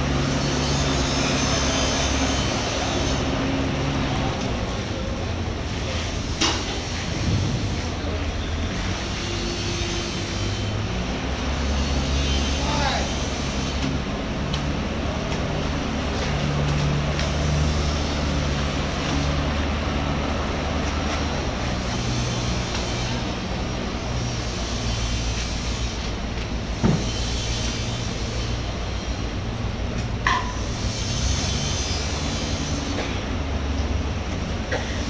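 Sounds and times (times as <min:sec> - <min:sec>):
low engine-like hum: 0:00.0 - 0:35.0.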